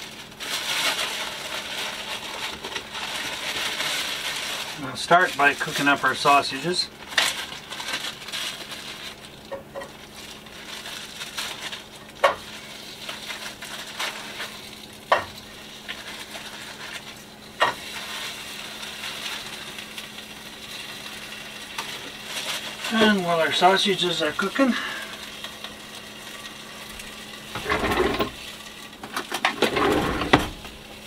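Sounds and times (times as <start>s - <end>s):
sausages sizzling in a pan: 0.0s - 29.1s.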